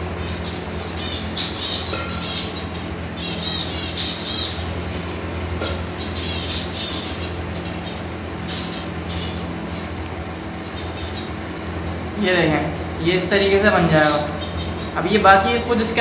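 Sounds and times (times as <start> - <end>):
finches chirping: 0.0 - 16.0
steady low hum: 0.0 - 16.0.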